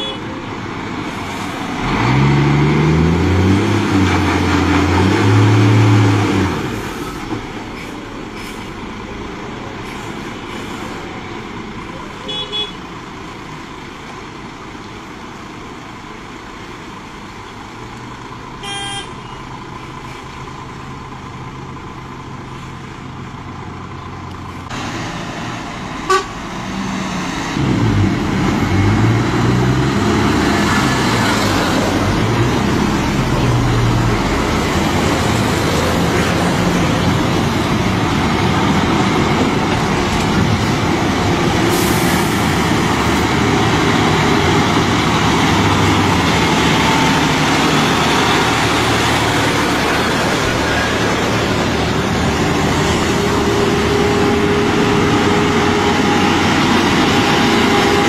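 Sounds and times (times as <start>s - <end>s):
diesel truck engines running: 0.0s - 58.0s.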